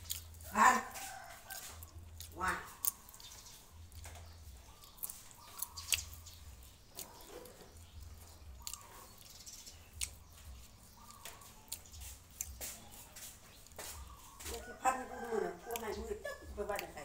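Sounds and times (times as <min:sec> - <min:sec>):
person chewing and lip-smacking: 0:00.0 - 0:14.6.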